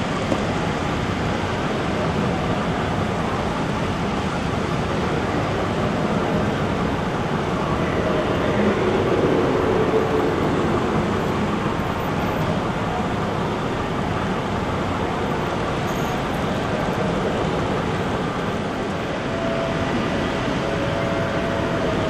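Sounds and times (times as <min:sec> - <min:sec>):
hall background noise: 0:00.0 - 0:22.0.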